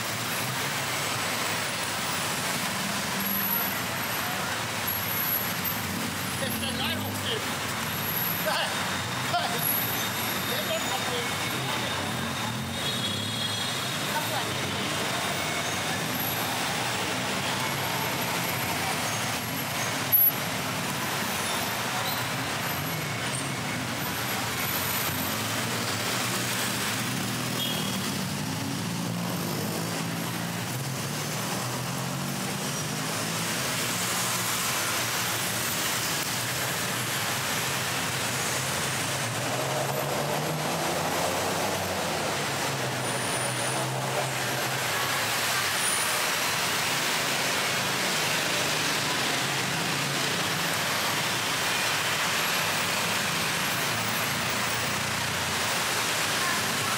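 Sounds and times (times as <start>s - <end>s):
vehicle engines passing: 0.0s - 56.9s.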